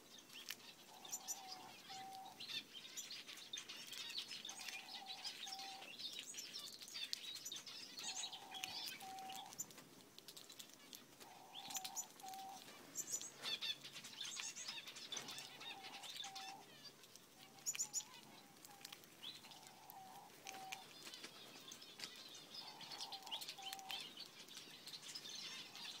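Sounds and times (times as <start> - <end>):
finches chirping and twittering: 0.0 - 9.8, 10.6 - 26.0.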